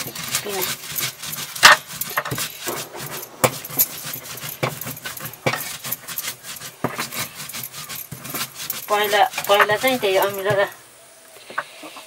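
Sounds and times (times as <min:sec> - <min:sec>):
grinding stone scraping: 0:00.0 - 0:10.8.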